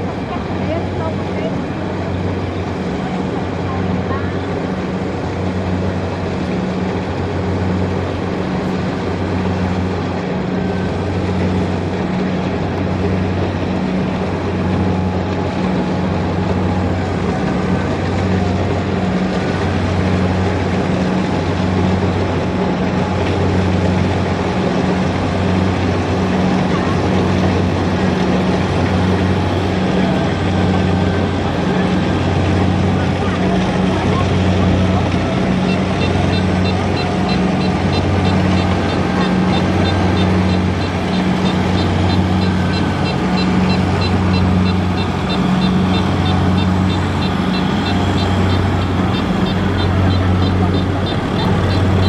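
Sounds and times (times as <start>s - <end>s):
muddy water splashing: 0.0s - 52.0s
tractor engine droning: 0.0s - 52.0s.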